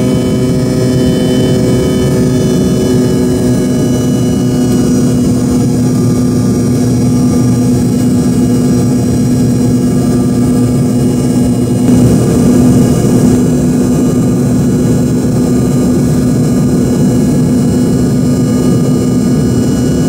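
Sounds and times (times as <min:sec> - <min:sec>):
jet engine cabin drone: 0:00.0 - 0:20.0.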